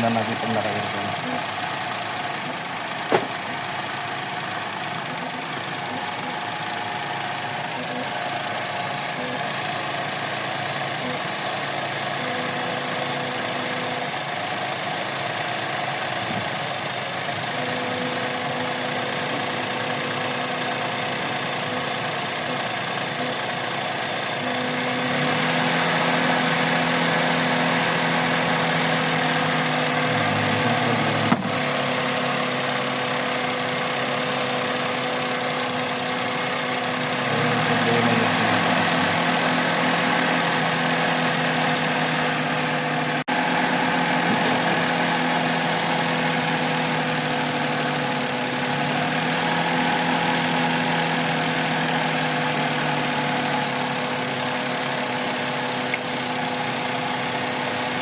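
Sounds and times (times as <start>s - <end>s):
car engine idling unevenly: 0.0s - 58.0s.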